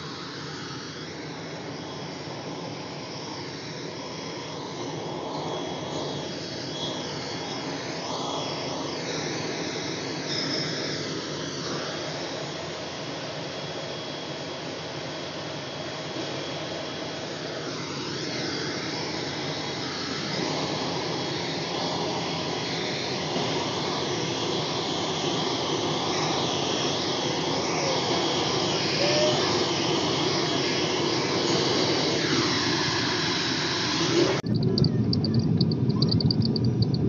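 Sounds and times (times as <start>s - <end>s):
turboprop engine whine: 0.0s - 37.0s.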